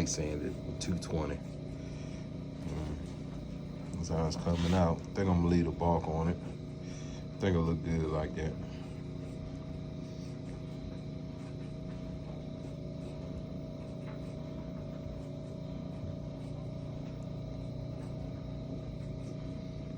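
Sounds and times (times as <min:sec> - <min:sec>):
steady mechanical hum: 0:00.0 - 0:19.9.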